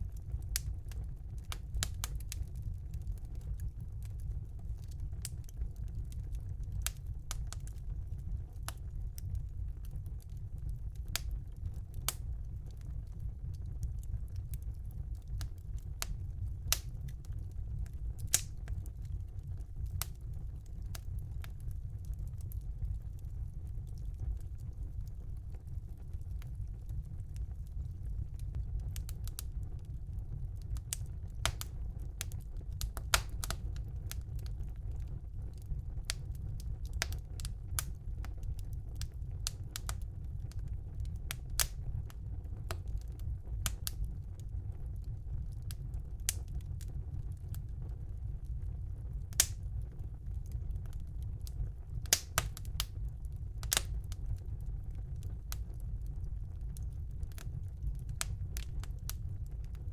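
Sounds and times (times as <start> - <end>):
fire crackling and popping: 0.0 - 59.9
low rumble of fire: 0.0 - 59.9.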